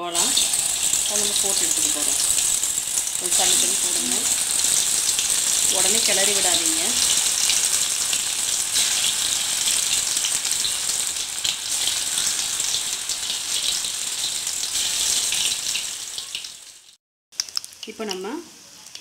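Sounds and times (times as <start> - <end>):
food deep-frying in hot oil: 0.0 - 19.0.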